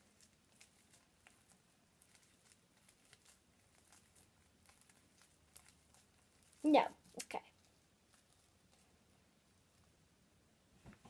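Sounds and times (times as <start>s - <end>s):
slime crackling being kneaded: 0.0s - 10.2s.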